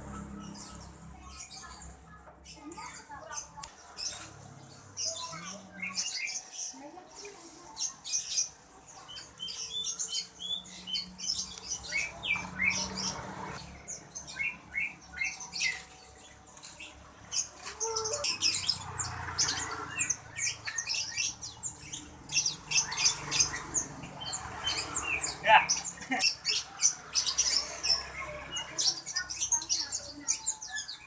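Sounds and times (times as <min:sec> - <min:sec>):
songbirds chirping and squeaking: 0:00.0 - 0:31.0.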